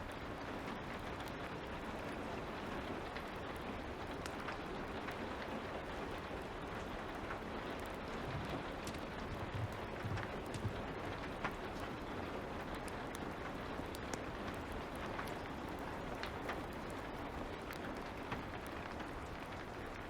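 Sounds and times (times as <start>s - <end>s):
light rain: 0.0s - 20.0s
wood fire crackling: 0.0s - 20.0s.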